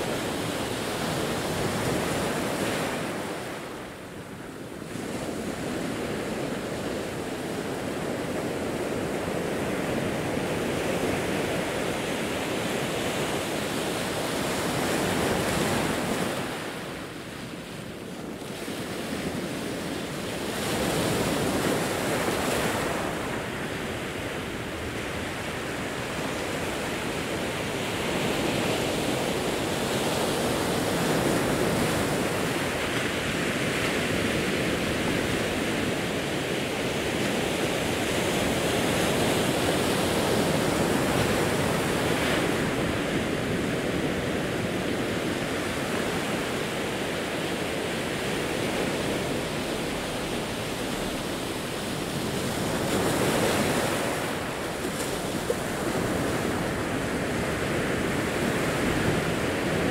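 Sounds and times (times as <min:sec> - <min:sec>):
waves breaking over rocky shore: 0:00.0 - 0:59.9.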